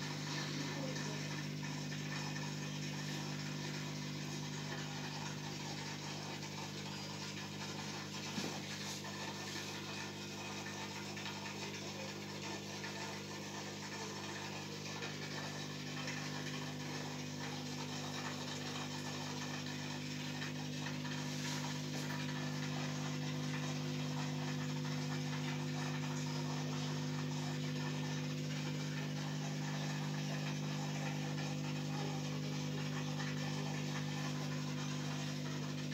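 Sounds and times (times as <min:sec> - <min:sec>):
aquarium pump hum: 0:00.0 - 0:35.9.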